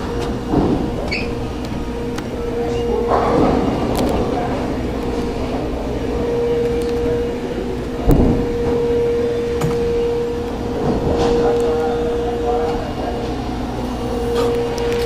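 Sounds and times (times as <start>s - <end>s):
claw machine whine: 0.0s - 15.0s
machine hum: 0.0s - 15.0s.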